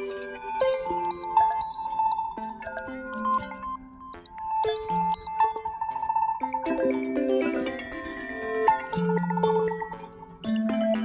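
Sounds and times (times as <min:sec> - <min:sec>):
background music melody: 0:00.0 - 0:11.0.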